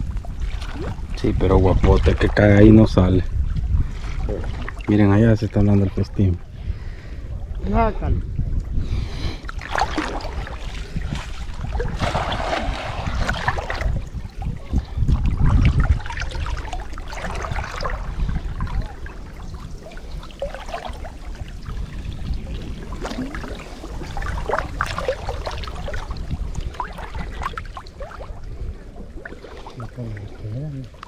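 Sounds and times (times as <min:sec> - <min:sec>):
muddy water splashing and trickling: 0:00.0 - 0:31.0.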